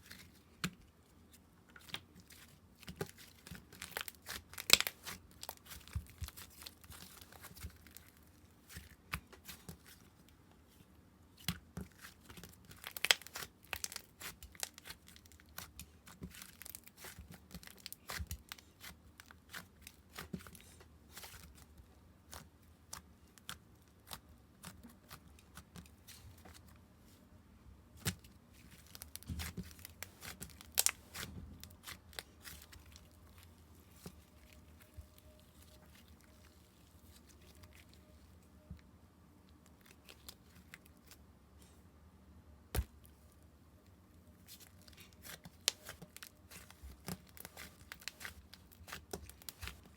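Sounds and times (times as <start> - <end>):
slime crinkling and crackling: 1.7 - 10.8, 11.4 - 26.7, 28.0 - 38.5, 39.6 - 41.2, 44.4 - 49.9.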